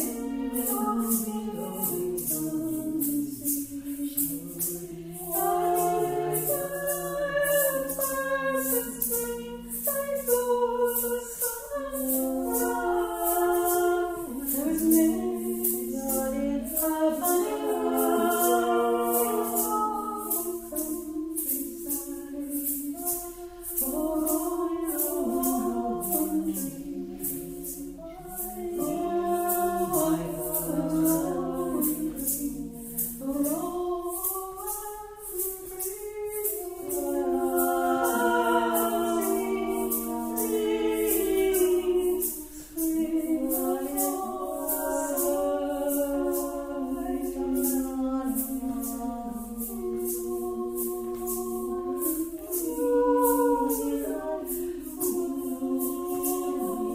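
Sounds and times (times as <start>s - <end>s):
choir singing held chords: 0.0s - 56.9s
shaken percussion rattle: 0.0s - 56.9s.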